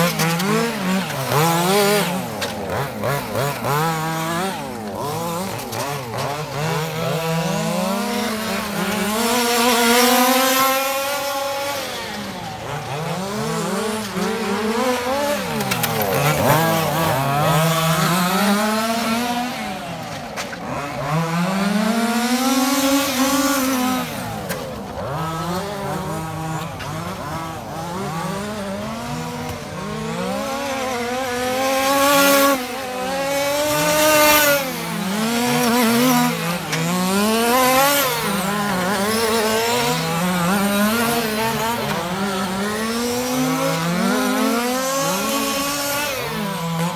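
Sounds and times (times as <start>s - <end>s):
rc car engines revving: 0.0s - 46.9s.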